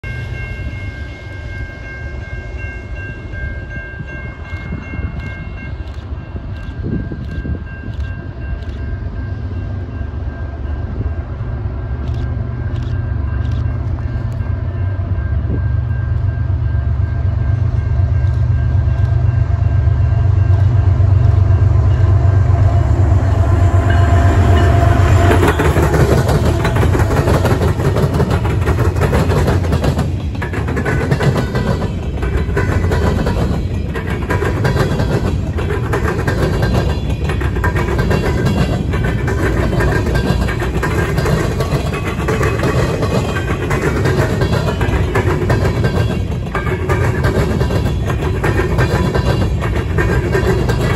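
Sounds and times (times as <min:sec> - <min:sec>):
train wheels on rails: 0:00.0 - 0:50.9
locomotive engine rumble: 0:00.1 - 0:50.9.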